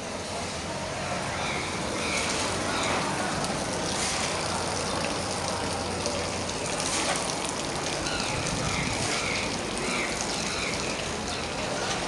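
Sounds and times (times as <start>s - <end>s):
rain hissing: 1.8s - 12.0s.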